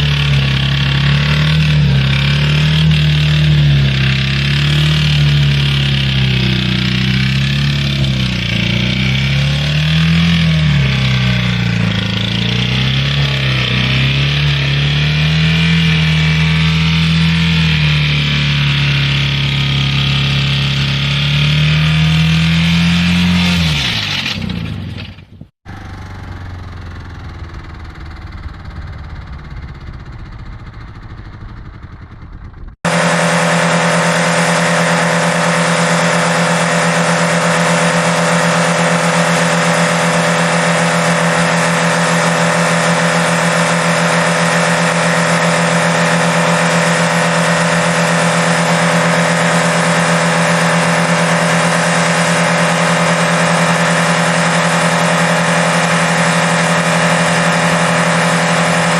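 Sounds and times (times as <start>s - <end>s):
car engine running: 0.0s - 58.9s.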